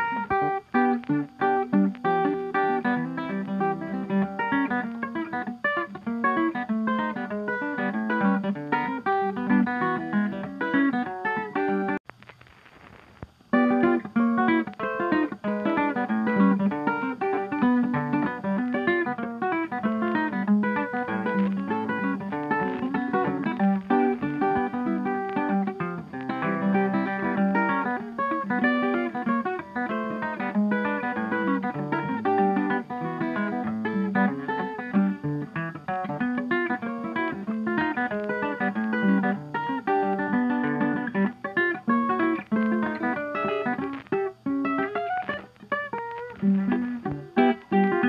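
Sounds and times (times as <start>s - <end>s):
plucked guitar playing: 0.0s - 12.0s, 12.9s - 48.0s.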